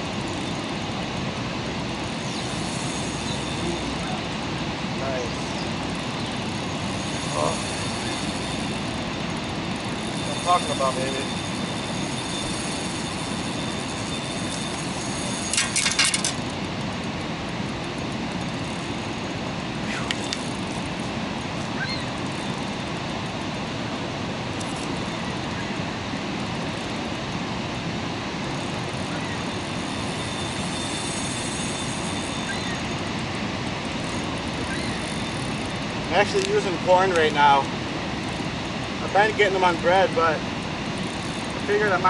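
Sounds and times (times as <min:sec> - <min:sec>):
rushing background noise: 0:00.0 - 0:42.0.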